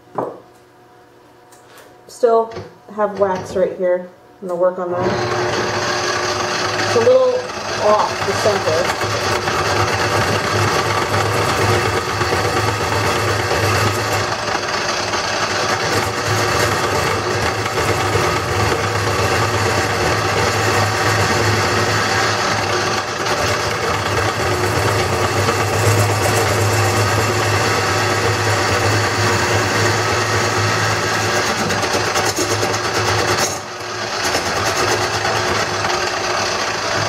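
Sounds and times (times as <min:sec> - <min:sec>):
wood lathe motor hum: 0:05.0 - 0:37.0
turning tool scraping wood: 0:05.1 - 0:37.0.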